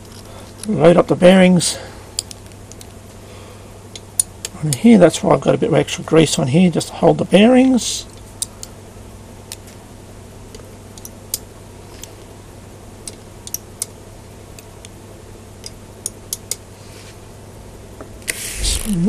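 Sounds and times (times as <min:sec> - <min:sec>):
faint steady low hum: 0:00.0 - 0:19.0.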